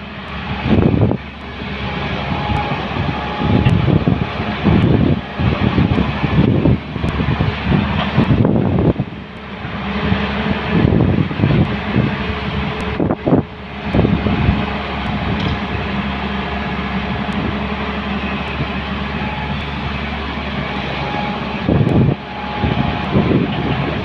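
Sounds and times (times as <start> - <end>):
diesel excavator engines running: 0.0 - 24.0.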